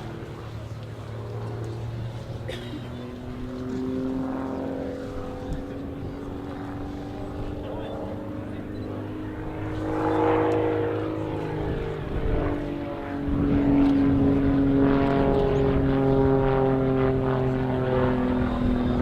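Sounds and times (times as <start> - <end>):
propeller plane engine: 0.0 - 19.0.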